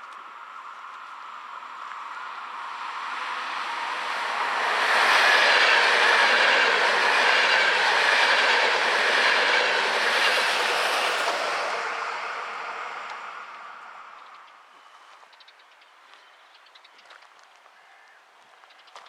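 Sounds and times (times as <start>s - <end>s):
train wheels on rails: 0.0s - 16.2s.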